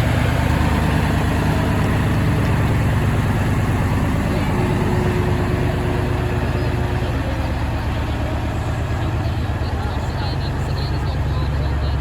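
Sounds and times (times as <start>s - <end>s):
truck diesel engines running: 0.0s - 12.0s.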